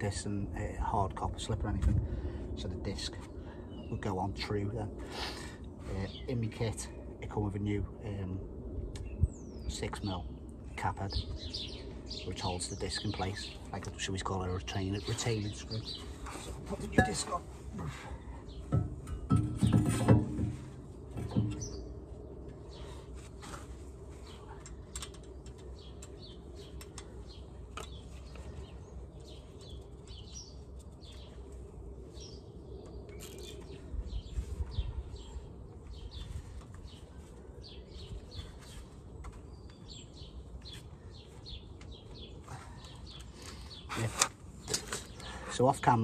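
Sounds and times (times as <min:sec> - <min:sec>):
birds chirping and singing: 0:00.0 - 0:46.0.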